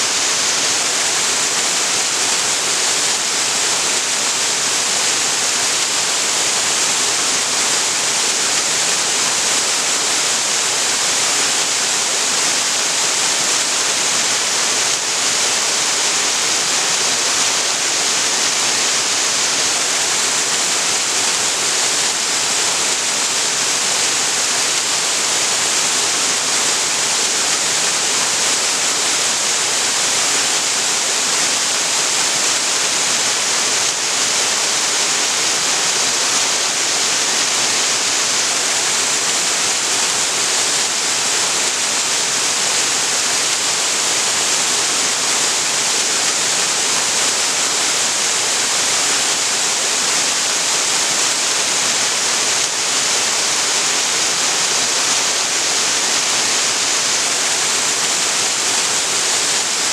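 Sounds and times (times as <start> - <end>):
waterfall pouring into creek: 0.0 - 59.9.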